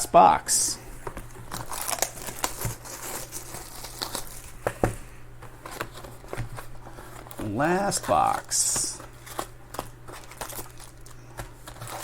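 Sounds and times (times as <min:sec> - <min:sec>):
packaging crinkling and tearing: 0:01.2 - 0:04.8, 0:05.5 - 0:12.0.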